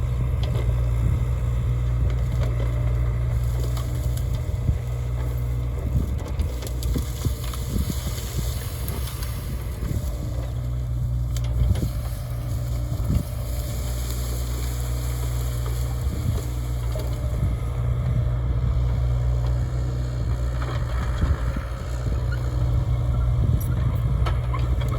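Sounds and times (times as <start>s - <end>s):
excavator diesel engine running: 0.0s - 24.9s
branches cracking and breaking: 0.2s - 22.8s.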